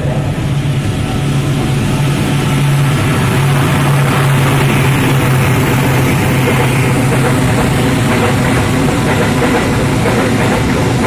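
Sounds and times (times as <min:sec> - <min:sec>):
diesel locomotive engine hum: 0:00.0 - 0:11.0.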